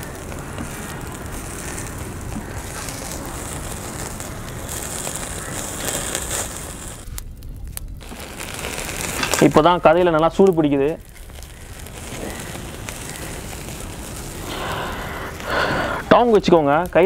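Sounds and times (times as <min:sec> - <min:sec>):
kebabs sizzling on grill: 0:00.0 - 0:17.0.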